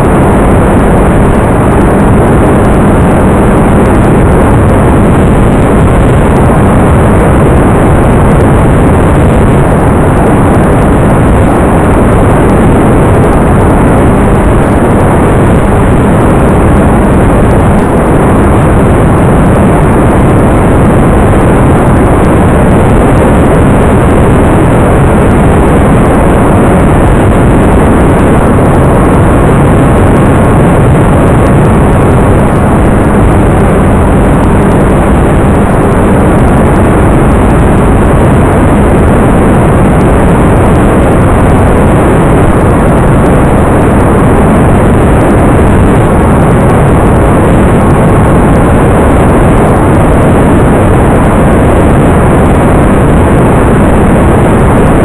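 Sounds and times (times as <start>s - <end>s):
loud steady engine-like noise: 0.0s - 55.0s.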